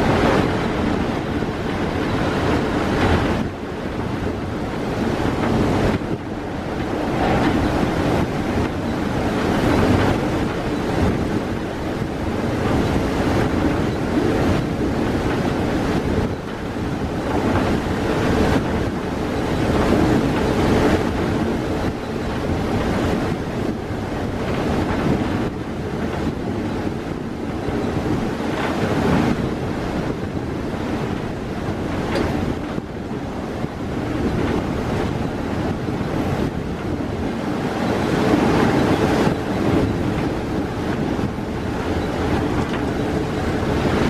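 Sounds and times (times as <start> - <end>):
train running on track: 0.0 - 44.0
wind rushing over microphone: 0.0 - 44.0.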